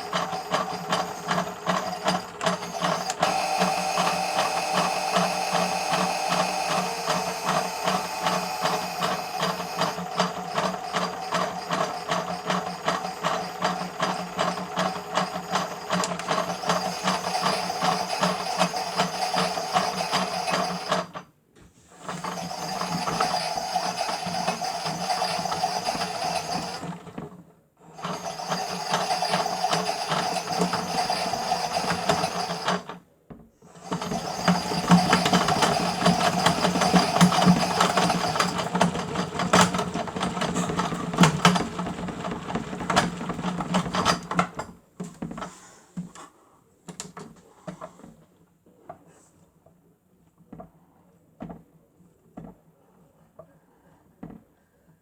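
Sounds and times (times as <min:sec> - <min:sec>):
toy washing machine whirring: 0:00.0 - 0:21.3, 0:21.9 - 0:33.0, 0:33.6 - 0:45.6.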